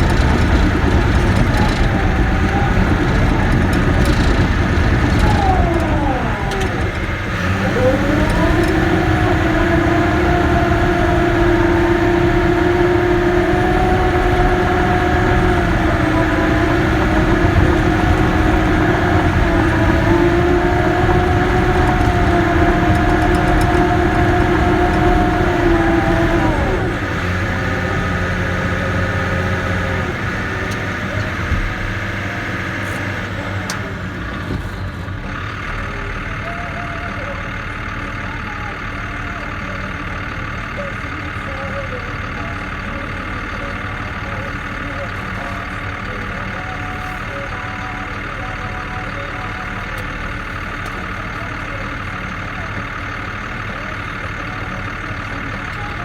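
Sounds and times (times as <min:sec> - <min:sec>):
bulldozer diesel engine whine: 0:00.0 - 0:56.0.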